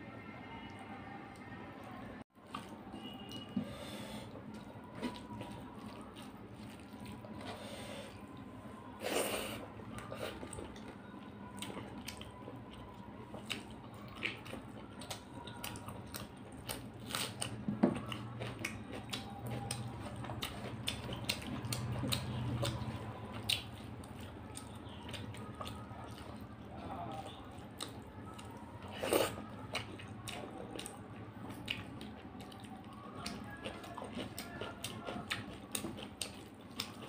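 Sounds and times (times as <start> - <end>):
chewing with wet mouth smacks: 2.4 - 3.6, 4.2 - 37.0.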